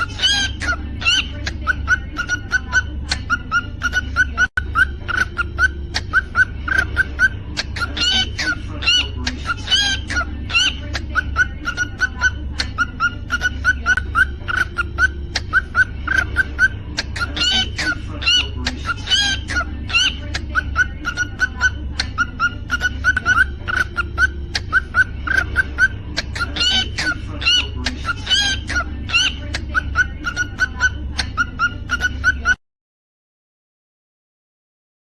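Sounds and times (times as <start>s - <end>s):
cockatiel chirping: 0.0s - 32.6s
low steady hum: 0.0s - 32.6s.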